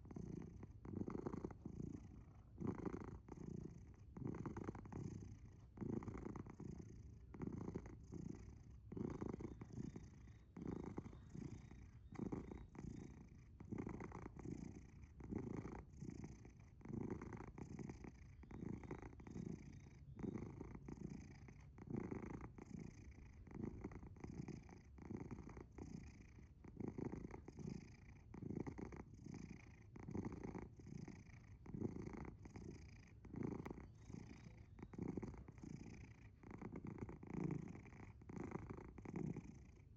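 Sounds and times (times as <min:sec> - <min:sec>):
cat purring loudly: 0:00.0 - 0:39.9.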